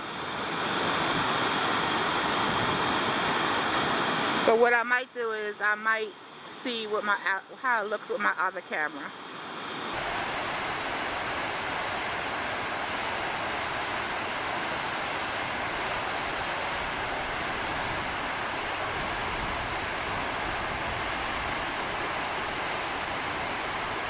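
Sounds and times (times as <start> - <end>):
river rushing: 0.0 - 4.7, 9.1 - 24.0.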